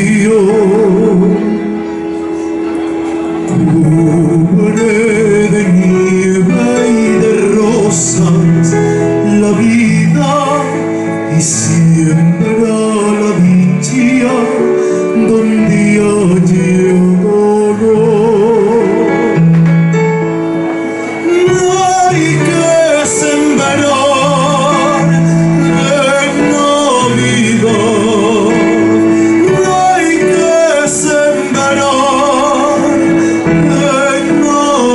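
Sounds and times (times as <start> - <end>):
man singing a carol: 0.0 - 1.7, 3.5 - 19.4, 21.2 - 34.9
electronic keyboard: 0.0 - 34.9.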